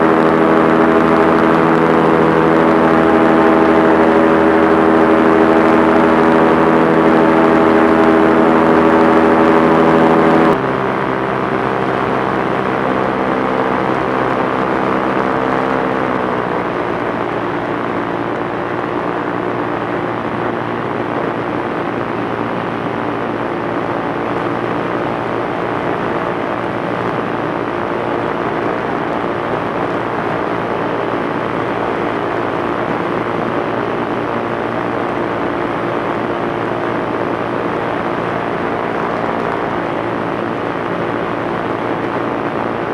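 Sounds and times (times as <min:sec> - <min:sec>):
propeller aircraft engine droning: 0:00.0 - 0:42.9.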